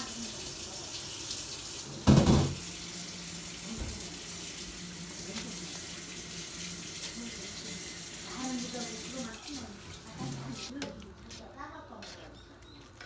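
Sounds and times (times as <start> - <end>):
water running from a tap: 0.0 - 10.7.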